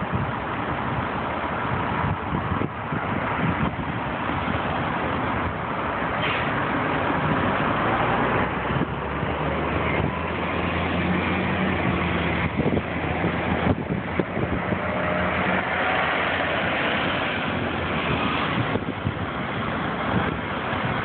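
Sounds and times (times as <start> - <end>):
bus engine humming: 0.0 - 21.0
cars passing: 0.0 - 21.0.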